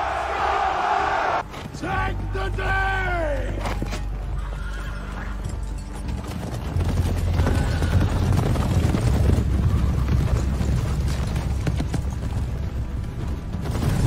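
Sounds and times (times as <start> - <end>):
hoofbeats of many horses: 0.8 - 14.0.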